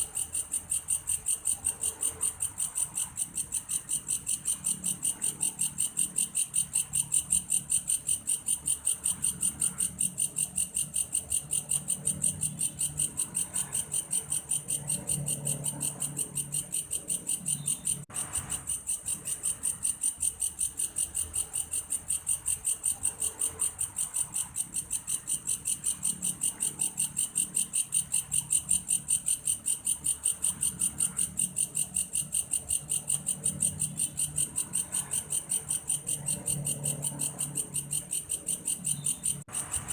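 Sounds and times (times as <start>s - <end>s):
insect pulsing trill: 0.0s - 39.9s.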